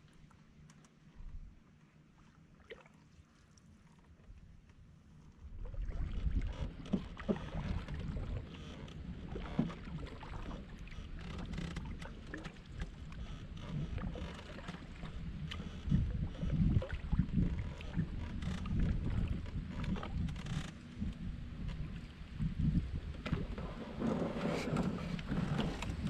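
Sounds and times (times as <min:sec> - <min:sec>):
paddle strokes in water: 0:00.0 - 0:26.0
wind rumble on microphone: 0:04.3 - 0:26.0.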